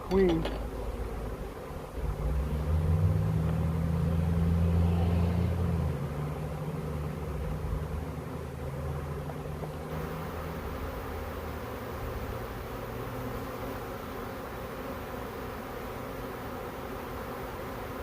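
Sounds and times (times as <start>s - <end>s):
bee swarm humming: 0.0s - 18.0s.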